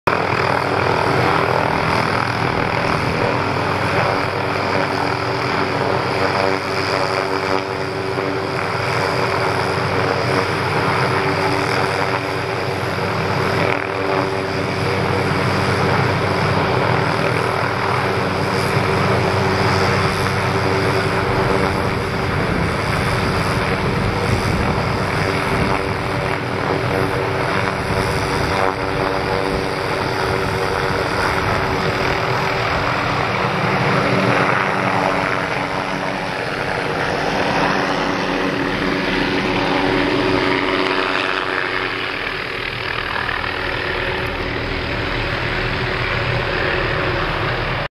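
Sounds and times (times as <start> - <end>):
helicopter hovering overhead: 0.1 - 47.9.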